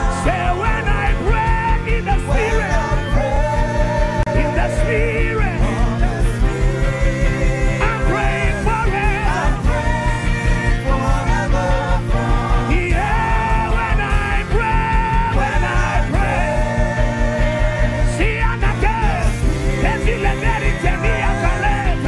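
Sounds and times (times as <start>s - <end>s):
steady pulsing beat: 0.0s - 22.0s.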